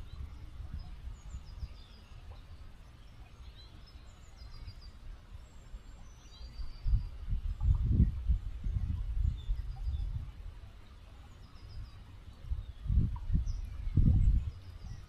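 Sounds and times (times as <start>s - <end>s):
low uneven rumble: 0.0s - 15.0s
small birds chirping: 0.0s - 15.0s
stream flowing: 0.0s - 15.0s.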